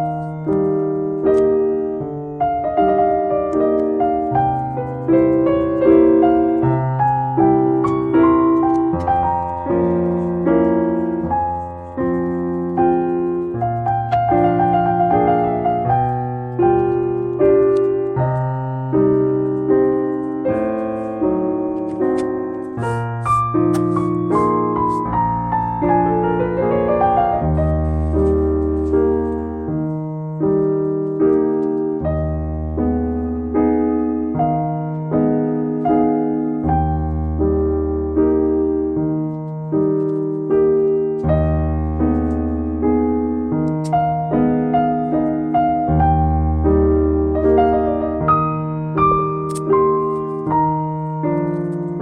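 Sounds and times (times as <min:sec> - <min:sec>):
piano tune: 0:00.0 - 0:52.0.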